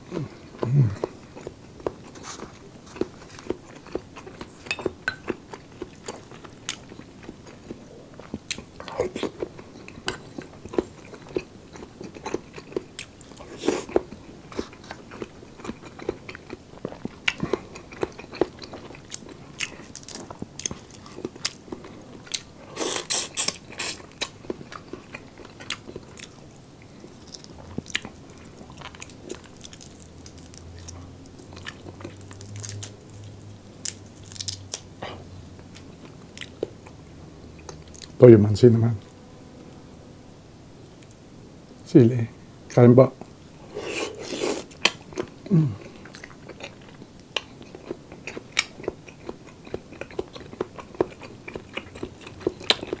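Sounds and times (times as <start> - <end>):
chewing with wet mouth clicks: 0.6 - 34.9, 35.7 - 37.0, 44.3 - 53.0.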